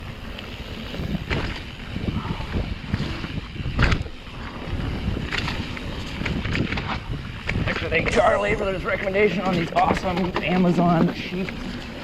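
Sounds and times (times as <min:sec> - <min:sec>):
wind rushing over microphone: 0:00.0 - 0:10.7
bike rattling over bumps: 0:00.0 - 0:12.0
bike tyres rumbling on dirt: 0:00.0 - 0:12.0.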